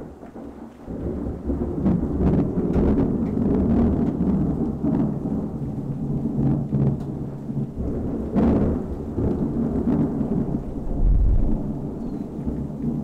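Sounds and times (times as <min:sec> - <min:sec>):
rain: 0:00.0 - 0:13.0
thunder rumbling: 0:00.0 - 0:13.0.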